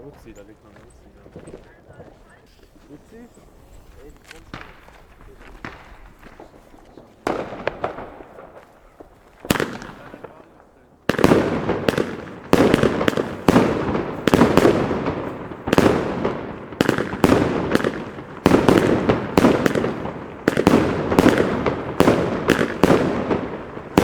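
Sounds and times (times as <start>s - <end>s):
firework battery bangs: 4.3s - 24.0s.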